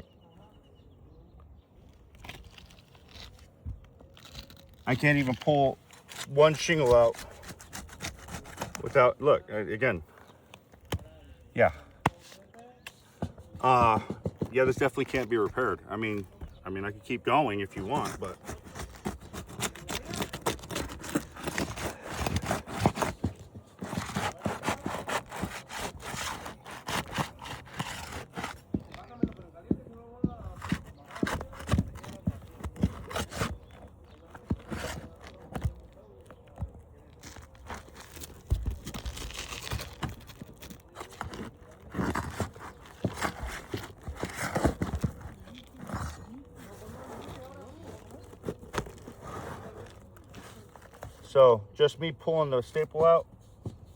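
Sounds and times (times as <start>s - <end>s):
shingles scraping and rubbing: 2.1s - 11.0s, 11.6s - 51.4s.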